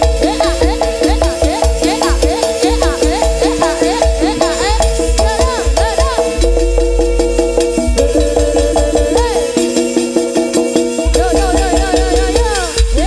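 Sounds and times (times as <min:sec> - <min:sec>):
gamelan music through sound system: 0:00.0 - 0:13.0
heavy bass drumming: 0:00.0 - 0:13.0.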